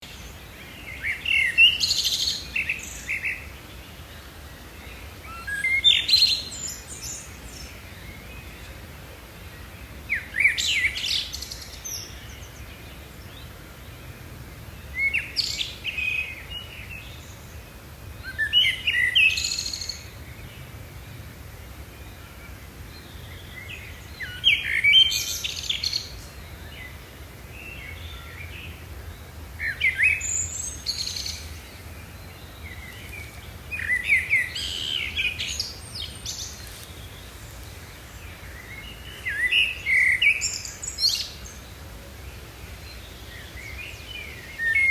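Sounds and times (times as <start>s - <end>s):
faint low background noise: 0.0s - 44.9s
songbird chirps and trills: 0.0s - 44.9s.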